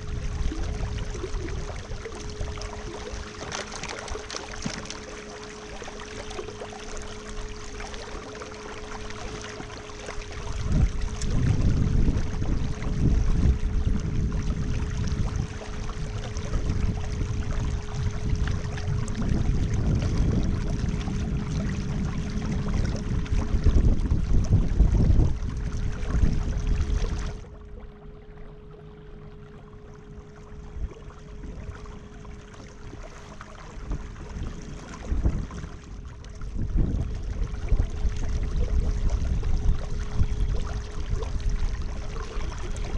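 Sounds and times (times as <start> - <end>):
wind noise on microphone: 0.0 - 3.9, 7.1 - 27.6, 30.6 - 42.9
low rumble of water: 0.0 - 42.9.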